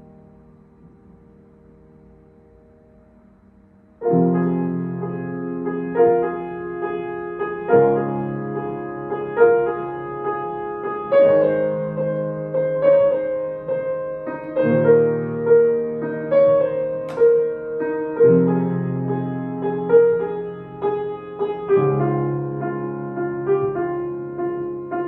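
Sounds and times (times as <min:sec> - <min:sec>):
slow solo piano piece: 0:00.0 - 0:25.0.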